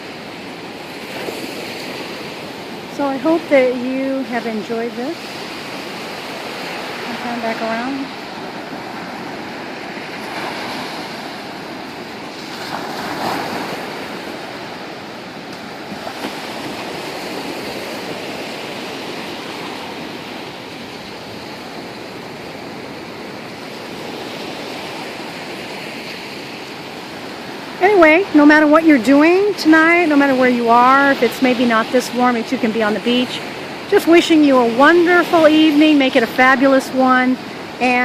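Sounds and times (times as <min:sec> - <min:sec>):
ocean surf breaking: 0:00.0 - 0:38.0.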